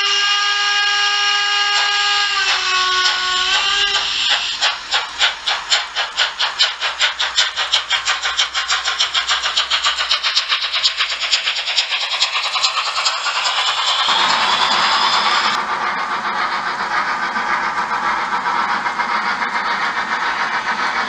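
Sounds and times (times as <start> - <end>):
steam hiss: 0.0 - 21.0.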